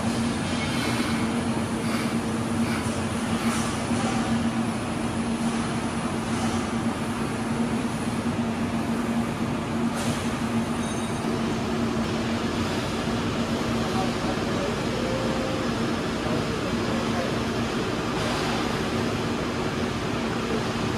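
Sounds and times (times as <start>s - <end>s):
fan-like machinery rush: 0.0s - 20.9s.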